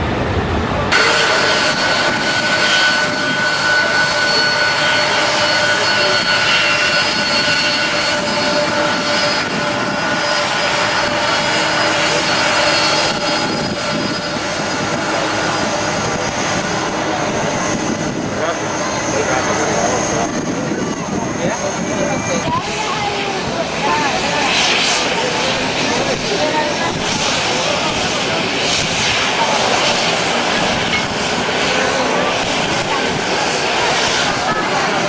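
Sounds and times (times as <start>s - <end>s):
jet engines running loudly: 0.0s - 35.0s
high-pitched whine: 0.1s - 35.0s.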